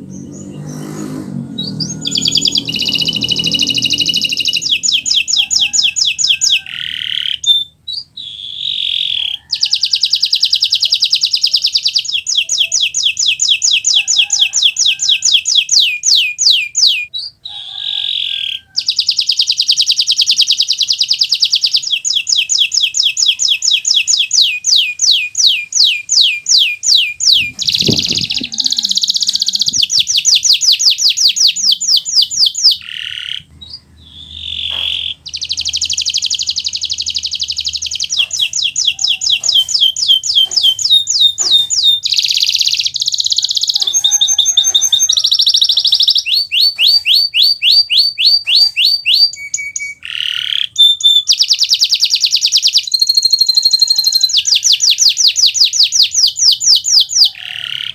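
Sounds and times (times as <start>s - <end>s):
canary singing fast trills: 0.0s - 57.9s.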